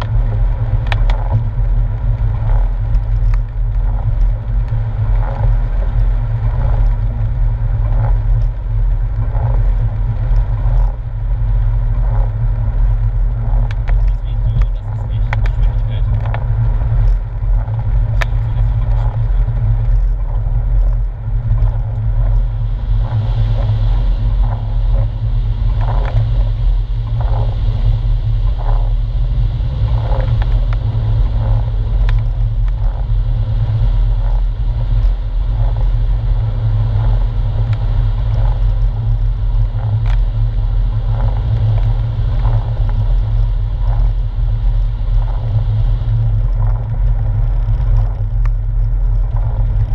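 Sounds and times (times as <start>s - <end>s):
car engine low drone: 0.0s - 49.9s.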